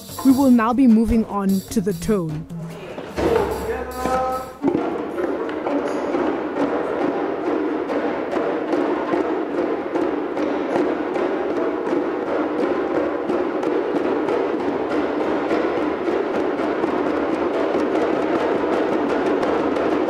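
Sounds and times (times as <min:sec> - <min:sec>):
djembes drumming: 0:00.0 - 0:20.0
djembe tone strokes: 0:01.6 - 0:20.0.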